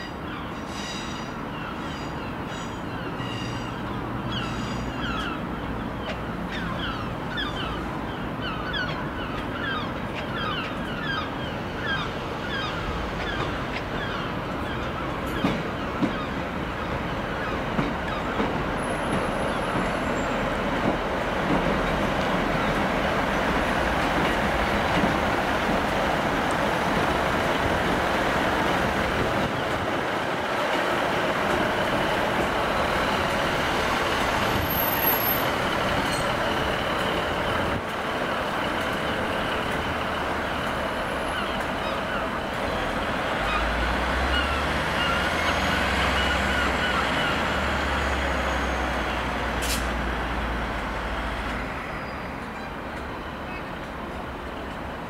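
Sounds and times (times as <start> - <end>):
train running: 0.0 - 55.0.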